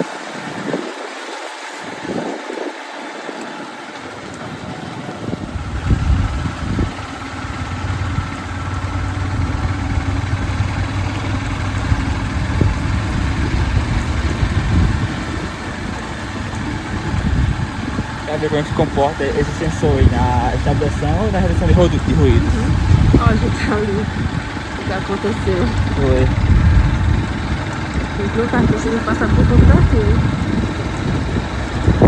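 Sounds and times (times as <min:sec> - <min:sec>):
vehicle engine rumbling: 0:03.6 - 0:32.0.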